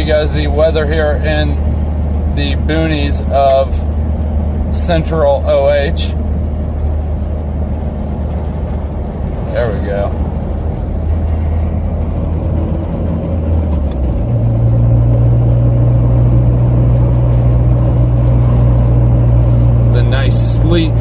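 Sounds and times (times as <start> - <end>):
road noise: 0.0 - 21.0
truck engine hum: 0.0 - 21.0.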